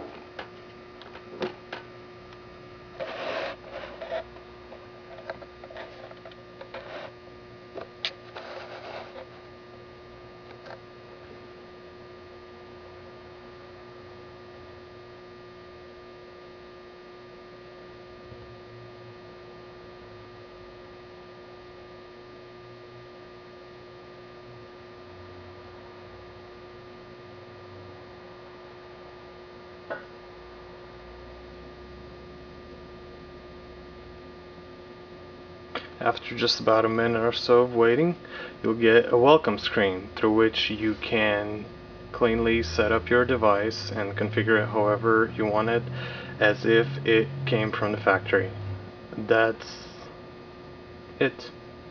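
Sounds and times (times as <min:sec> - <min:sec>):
steady electrical hum: 0:00.0 - 0:51.9.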